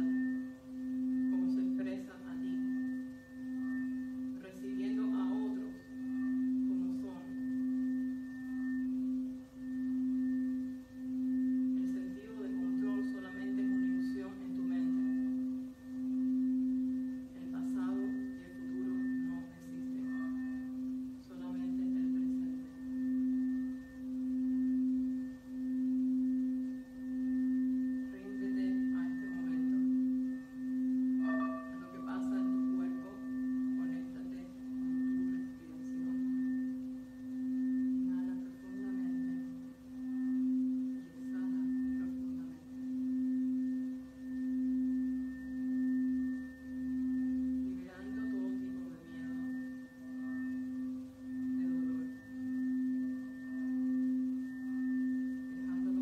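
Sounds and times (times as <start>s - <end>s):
singing bowl sustained tone: 0.0s - 56.0s.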